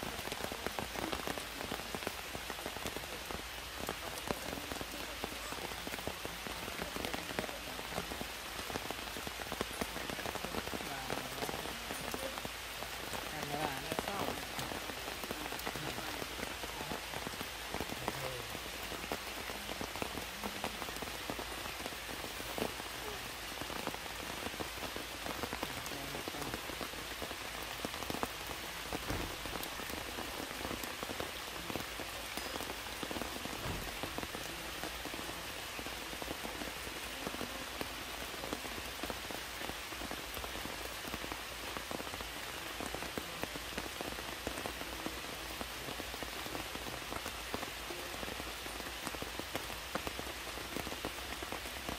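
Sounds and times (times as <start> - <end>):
heavy rain falling: 0.0 - 51.9
individual raindrop hits: 0.0 - 51.9.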